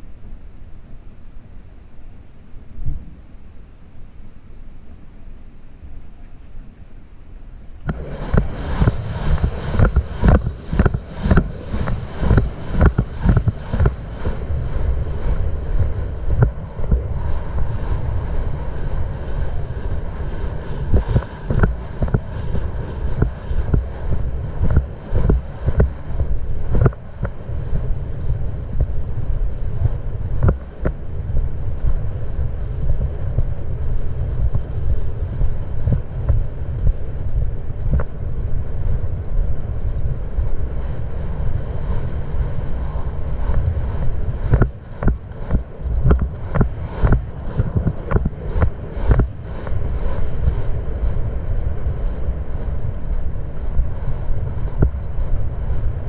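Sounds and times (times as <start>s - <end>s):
wind buffeting microphone: 7.6s - 56.0s.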